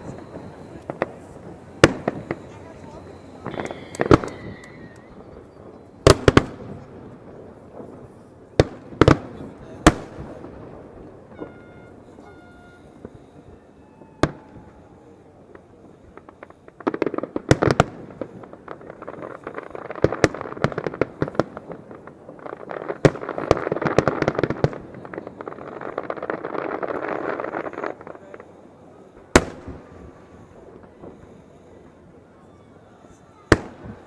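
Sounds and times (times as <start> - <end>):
firework bang: 0.0 - 28.4, 29.0 - 31.8
fireworks popping and crackling: 0.0 - 34.0.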